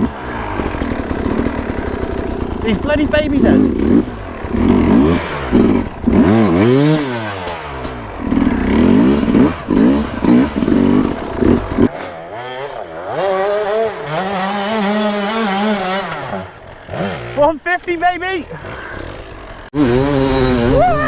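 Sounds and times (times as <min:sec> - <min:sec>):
two-stroke dirt bike engine revving: 0:00.0 - 0:21.0.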